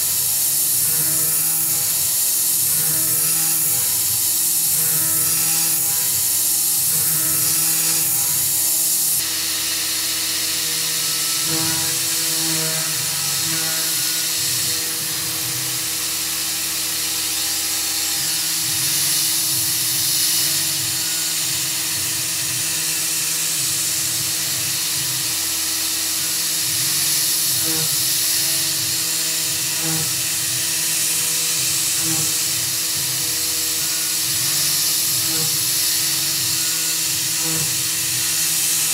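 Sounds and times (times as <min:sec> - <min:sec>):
mill spindle whine: 0:00.0 - 0:38.9
spray nozzle hiss: 0:00.0 - 0:38.9.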